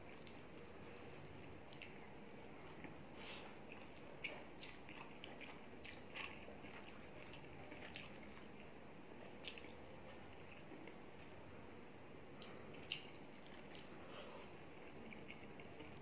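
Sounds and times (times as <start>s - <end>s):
chewing: 0.0s - 11.0s, 12.4s - 16.0s.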